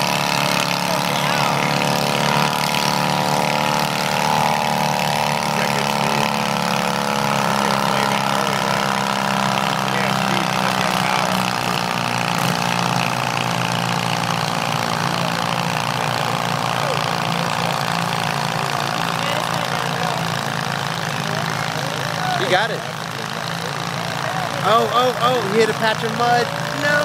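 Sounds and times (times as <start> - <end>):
small tractor engines running: 0.0 - 27.0.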